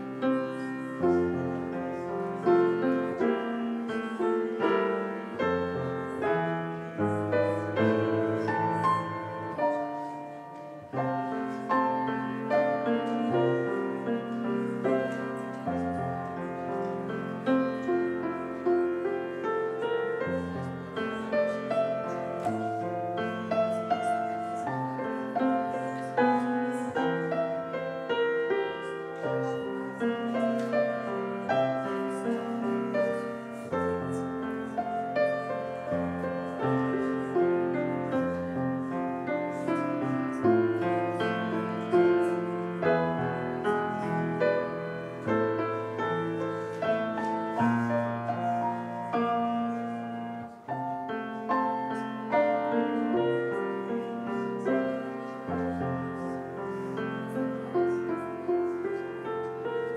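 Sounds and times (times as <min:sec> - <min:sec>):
solo grand piano: 0:00.0 - 0:59.9.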